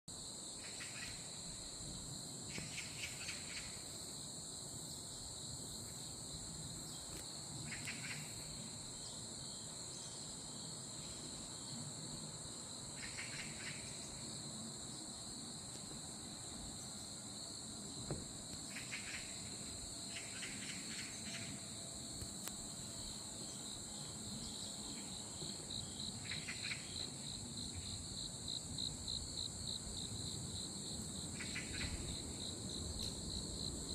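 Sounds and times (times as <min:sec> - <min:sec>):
high chorus of insects: 0:00.1 - 0:33.9
lower pulsed insect call: 0:00.1 - 0:33.9.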